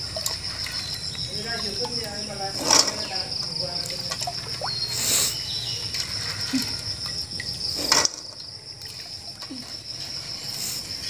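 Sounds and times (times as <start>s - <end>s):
hands sloshing in water bucket: 0.0s - 11.0s
insect high-pitched trill: 0.0s - 11.0s.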